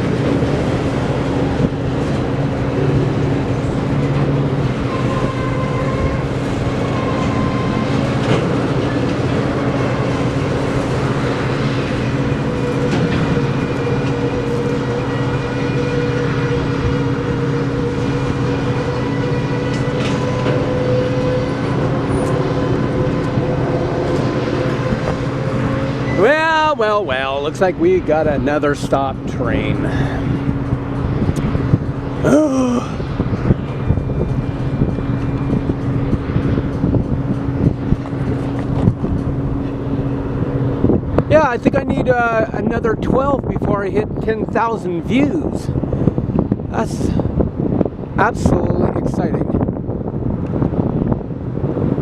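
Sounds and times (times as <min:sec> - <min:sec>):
train wheels rumbling on rails: 0:00.0 - 0:44.8.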